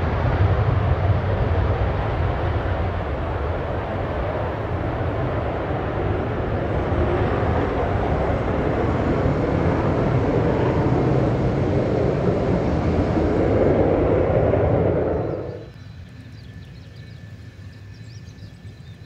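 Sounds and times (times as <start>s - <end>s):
jet engines rumbling at takeoff: 0.0s - 19.0s.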